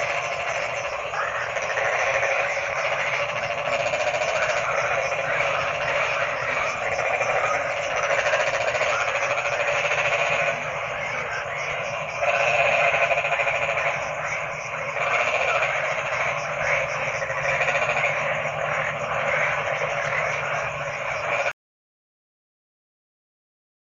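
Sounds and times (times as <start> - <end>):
chorus of frogs croaking: 0.0 - 21.6.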